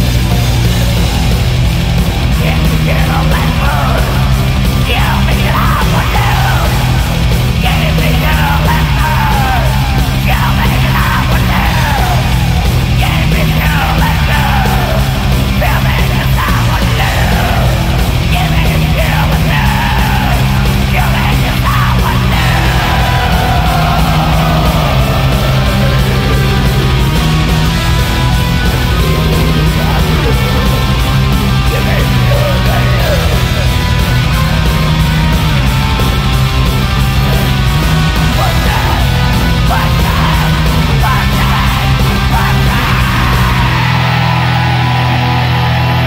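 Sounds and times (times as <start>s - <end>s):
distorted metal music: 0.0s - 46.0s
low repeating bass figure: 0.0s - 46.0s.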